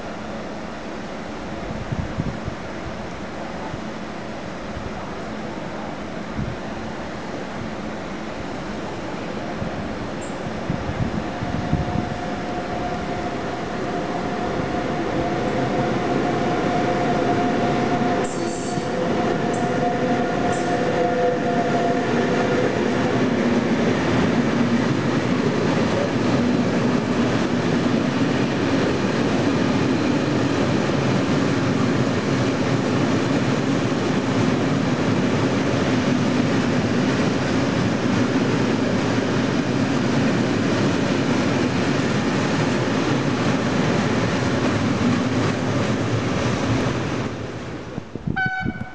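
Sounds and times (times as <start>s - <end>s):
electric train two-tone whine: 0.0s - 48.9s
wheels rumbling on rail: 0.0s - 48.9s.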